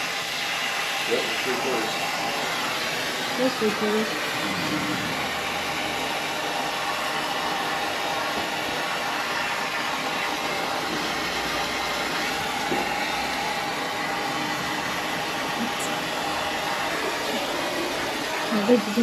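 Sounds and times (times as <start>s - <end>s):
machine rushing noise: 1.1s - 18.8s.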